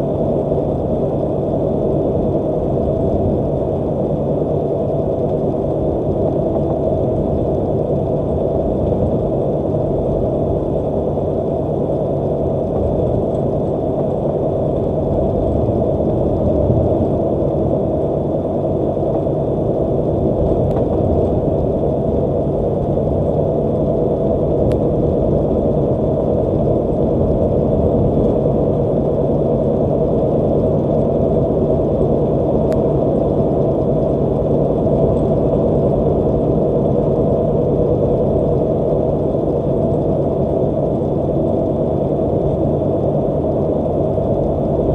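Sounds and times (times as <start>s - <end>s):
truck engine and road noise: 0.0s - 44.9s.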